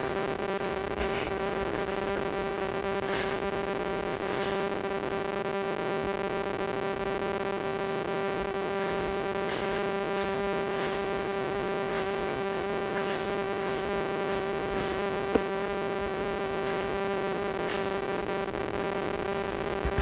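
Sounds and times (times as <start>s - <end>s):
footsteps crunching dry leaves: 0.0s - 5.2s, 7.7s - 20.0s
steady buzzing hum: 0.0s - 20.0s.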